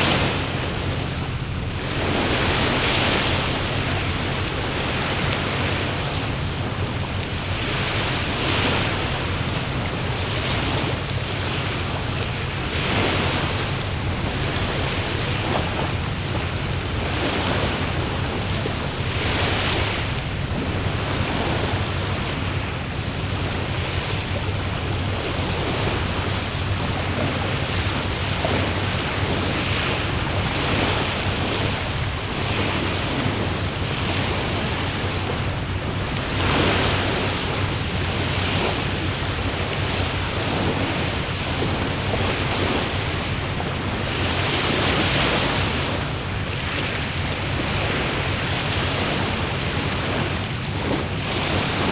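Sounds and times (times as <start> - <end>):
faint fire crackles: 0.0 - 51.9.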